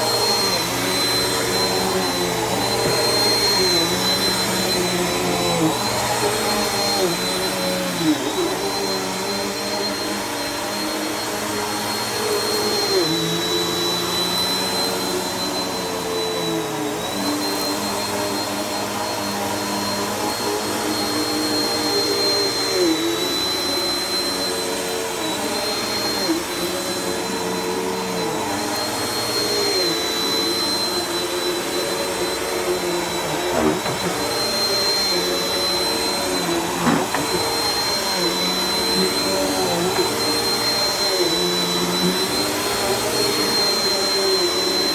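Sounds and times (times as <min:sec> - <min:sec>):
vacuum cleaner whining: 0:00.0 - 0:44.9.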